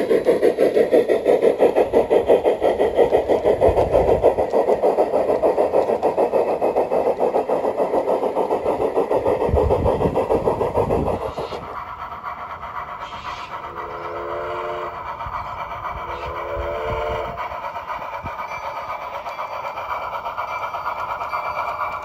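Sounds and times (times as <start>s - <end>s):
model steam locomotive chuffing: 0.0s - 22.0s.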